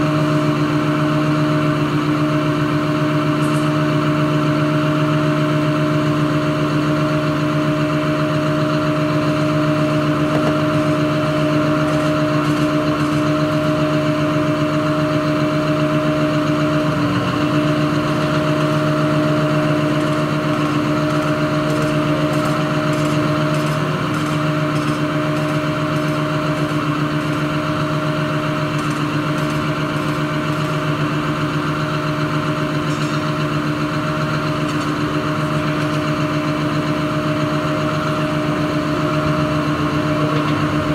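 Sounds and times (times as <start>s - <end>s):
excavator diesel engine idling: 0.0s - 40.9s.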